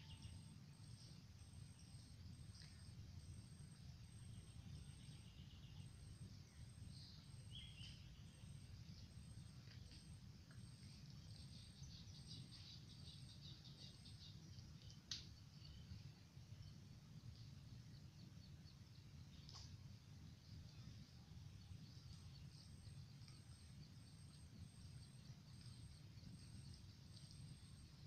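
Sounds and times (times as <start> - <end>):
faint bird chirps: 0.0 - 28.0
low steady rumble: 0.0 - 28.0.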